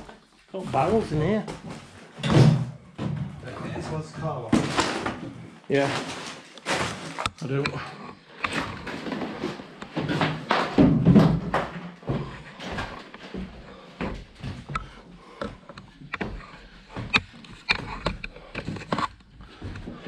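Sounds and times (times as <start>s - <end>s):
footsteps on debris-strewn stairs: 0.0s - 20.0s.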